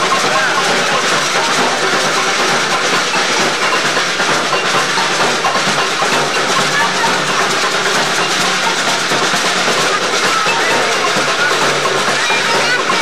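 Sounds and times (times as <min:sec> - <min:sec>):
crowd hubbub: 0:00.0 - 0:13.0.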